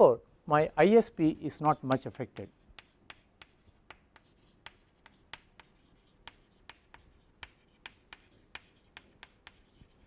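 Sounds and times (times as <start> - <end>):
chalk tapping on chalkboard: 1.6 - 10.0.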